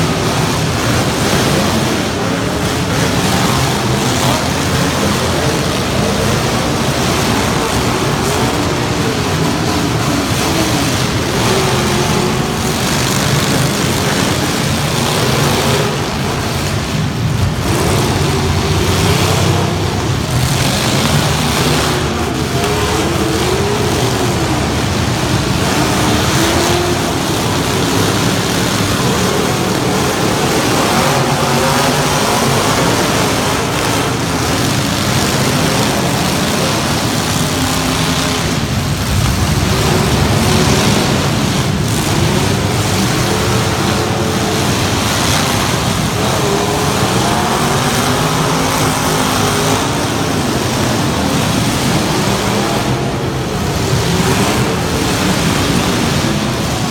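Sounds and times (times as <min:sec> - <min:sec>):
steady noise: 0:00.0 - 0:56.9
truck engines revving: 0:00.0 - 0:56.9.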